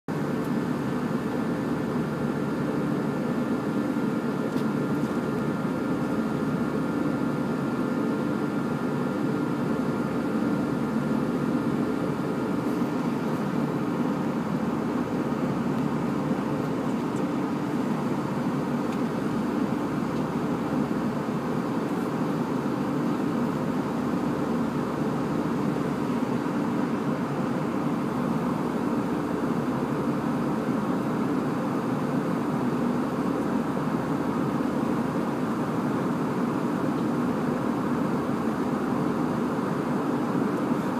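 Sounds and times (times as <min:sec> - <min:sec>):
airliner cabin engine rush: 0:00.1 - 0:40.9.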